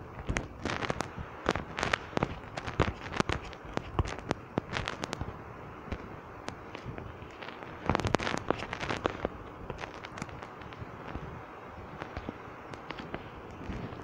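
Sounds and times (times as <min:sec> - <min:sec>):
low background hiss: 0:00.0 - 0:14.0
sharp pops and crackles: 0:00.0 - 0:14.0.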